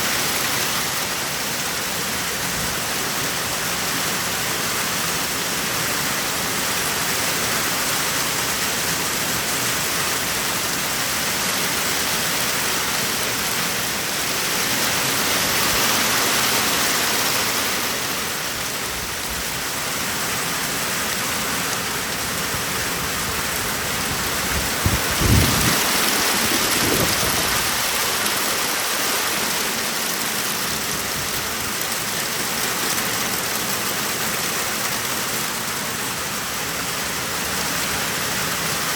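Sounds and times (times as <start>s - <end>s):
heavy rain and hail: 0.0s - 38.9s.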